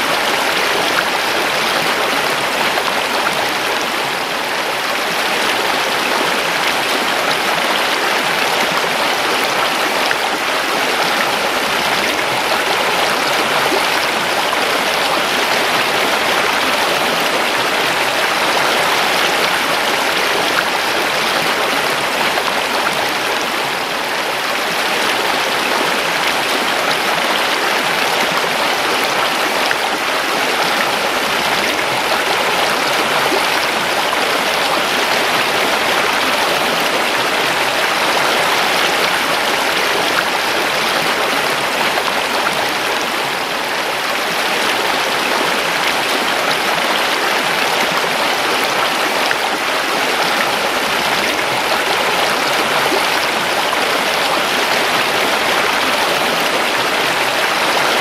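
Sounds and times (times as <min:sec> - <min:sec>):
river water rushing over stones: 0:00.0 - 0:58.0.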